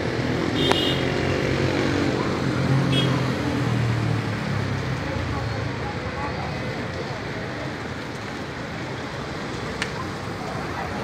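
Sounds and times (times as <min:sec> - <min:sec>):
road noise on a wet street: 0:00.0 - 0:11.0
crowd voices: 0:02.2 - 0:11.0.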